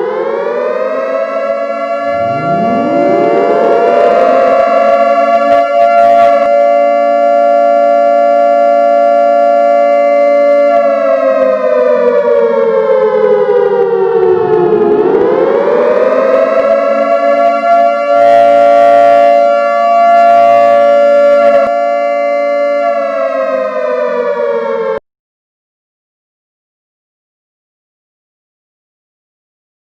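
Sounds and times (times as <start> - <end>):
air-raid siren wailing: 0.0 - 25.0.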